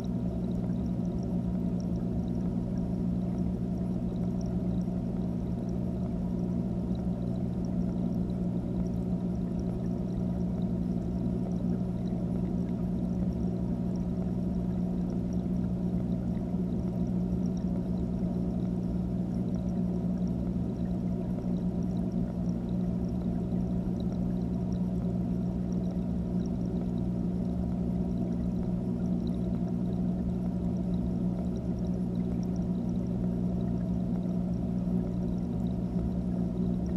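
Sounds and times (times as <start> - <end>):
aquarium pump humming underwater: 0.0 - 36.9.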